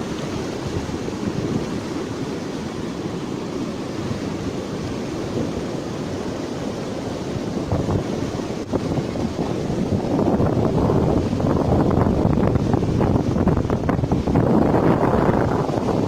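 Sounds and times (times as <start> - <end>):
stormy weather rushing: 0.0 - 16.0.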